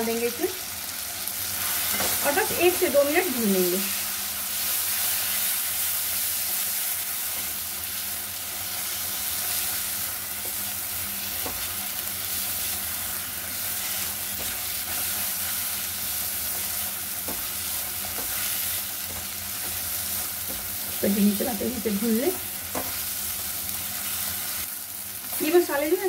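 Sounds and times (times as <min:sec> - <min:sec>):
masala sizzling in oil: 0:00.0 - 0:26.0.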